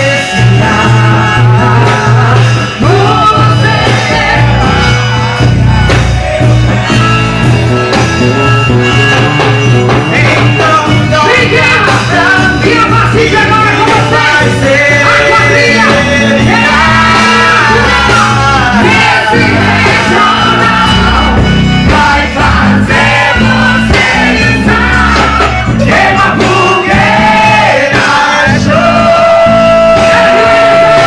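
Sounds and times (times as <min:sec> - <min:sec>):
loud music with singing: 0:00.0 - 0:31.0
steady bass line: 0:00.0 - 0:31.0.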